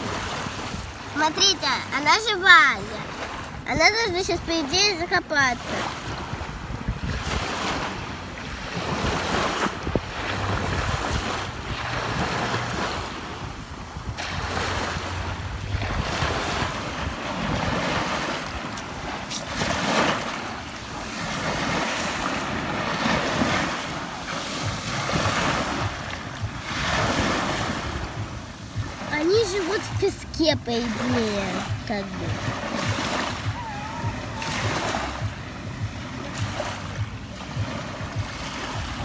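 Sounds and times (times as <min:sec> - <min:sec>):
sea waves washing onto shore: 0:00.0 - 0:39.0.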